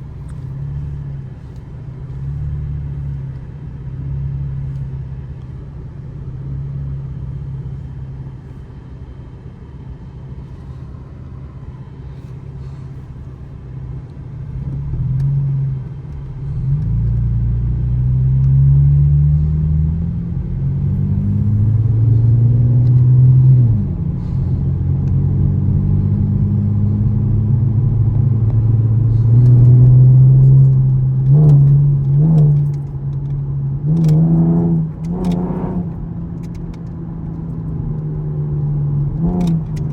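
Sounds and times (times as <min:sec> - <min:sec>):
car engine and exhaust accelerating: 0:00.0 - 0:39.9.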